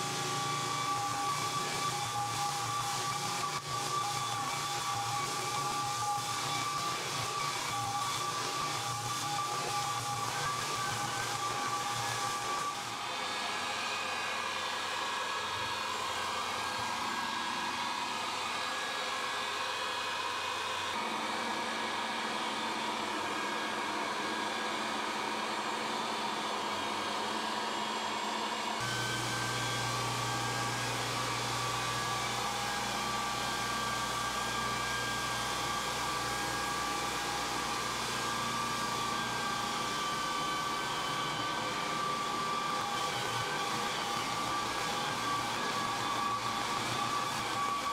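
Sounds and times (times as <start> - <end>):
edger sander sanding wood: 0.0 - 47.9
upright floor sander humming: 0.0 - 47.9.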